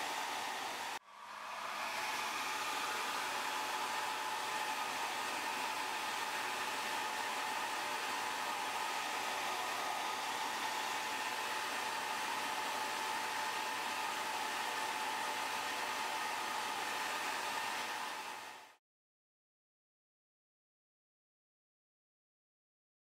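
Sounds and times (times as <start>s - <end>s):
hair dryer blowing: 0.0s - 18.8s.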